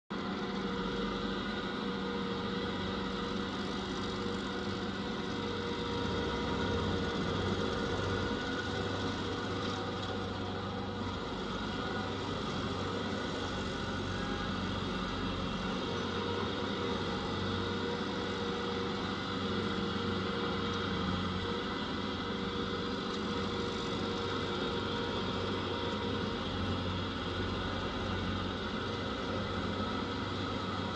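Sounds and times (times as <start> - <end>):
stump grinder engine running: 0.2 - 30.9.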